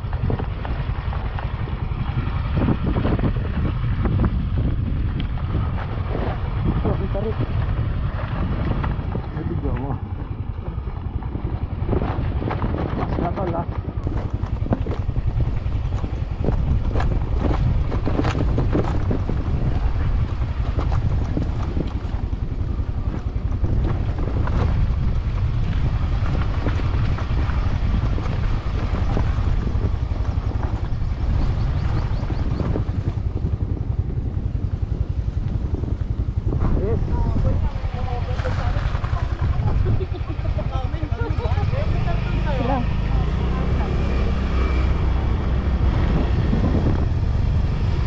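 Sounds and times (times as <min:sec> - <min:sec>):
motorcycle engine and road rumble: 0:00.0 - 0:48.0
wind buffeting microphone: 0:00.0 - 0:48.0.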